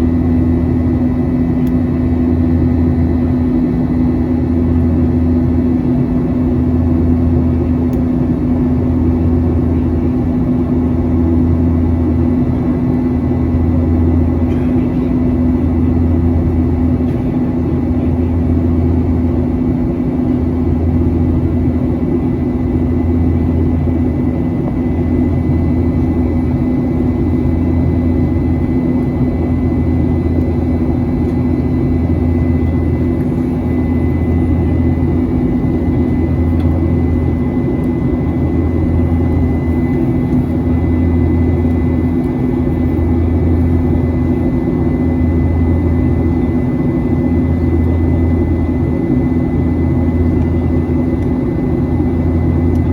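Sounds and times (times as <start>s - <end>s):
airplane cabin drone: 0.0s - 52.9s
low pulsing hum: 0.0s - 52.9s.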